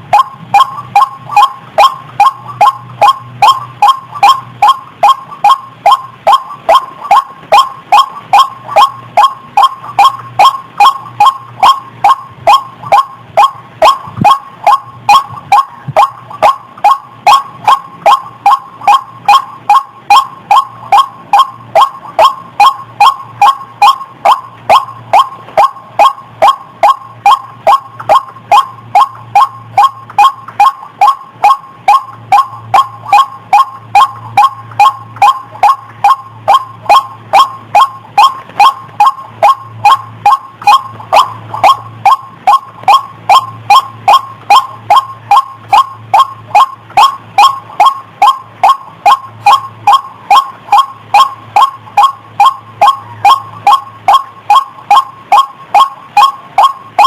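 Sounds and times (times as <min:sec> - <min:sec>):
waterhen calls: 0:00.0 - 0:57.0.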